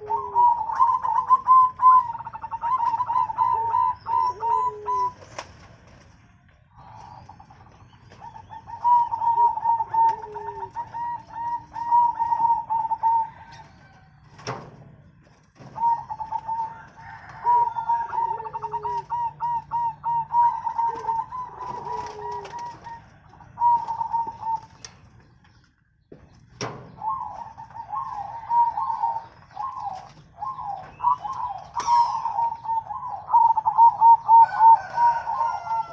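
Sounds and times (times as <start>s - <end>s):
doves cooing: 0.0s - 35.9s.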